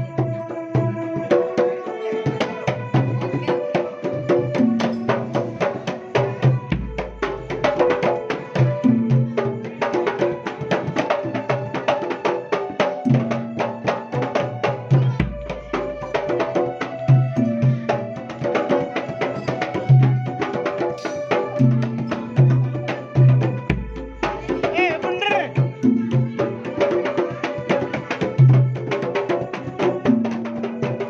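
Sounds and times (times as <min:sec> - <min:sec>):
fast drum strokes: 0:02.2 - 0:31.0.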